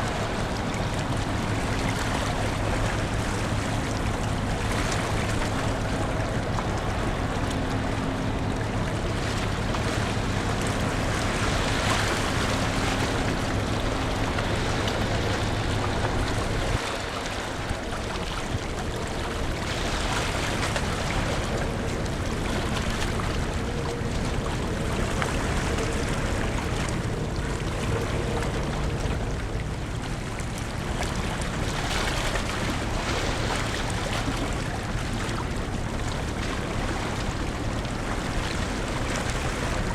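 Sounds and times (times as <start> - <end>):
ferry drone: 0.0 - 39.9
low engine hum: 0.0 - 39.9
rushing water: 0.0 - 39.9.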